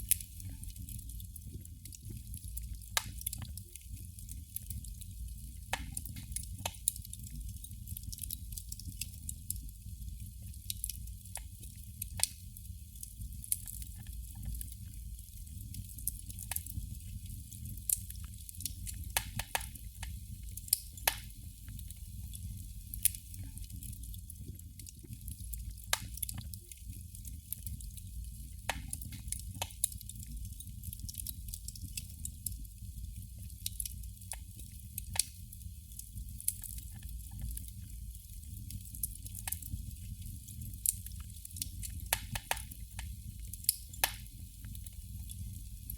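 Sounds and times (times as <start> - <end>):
candle flame crackling: 0.0 - 45.9.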